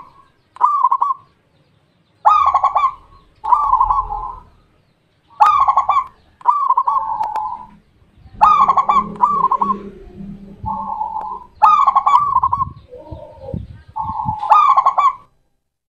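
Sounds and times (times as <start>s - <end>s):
dove cooing: 0.0s - 1.3s, 2.2s - 4.6s, 5.3s - 15.3s.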